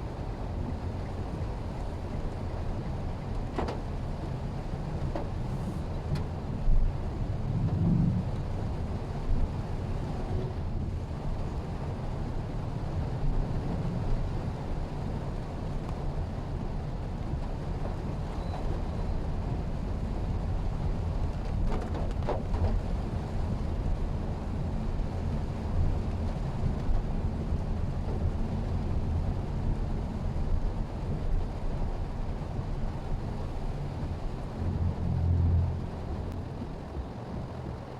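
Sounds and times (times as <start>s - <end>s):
car engine rumble: 0.0s - 37.9s
road noise: 0.0s - 37.9s.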